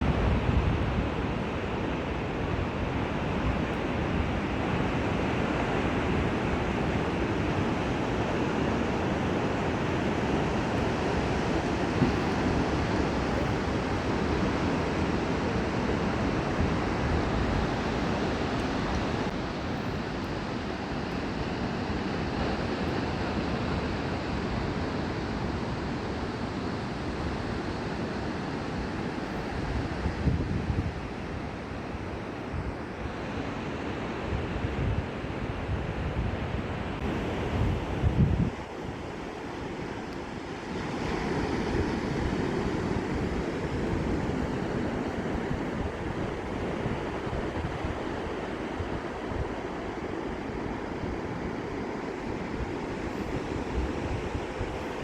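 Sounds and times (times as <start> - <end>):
waves breaking: 0.0 - 55.0
wind rumbling on microphone: 0.0 - 55.0.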